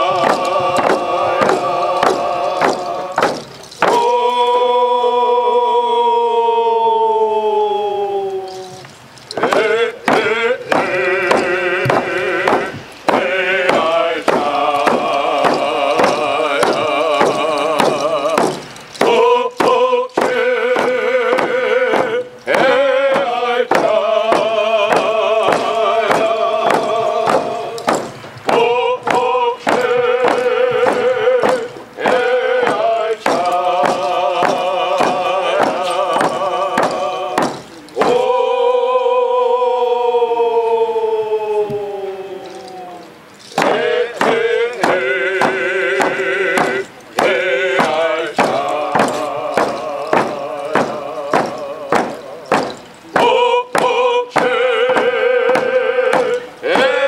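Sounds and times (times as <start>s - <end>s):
frame drum beats: 0.0s - 4.1s, 9.4s - 38.3s, 43.5s - 57.0s
men singing long wavering notes: 0.0s - 57.0s.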